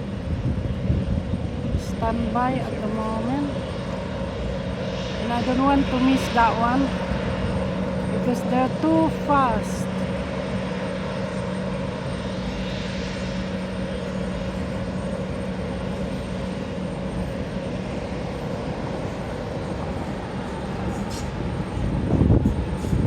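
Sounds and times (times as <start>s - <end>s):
airliner engines running: 0.0s - 23.0s.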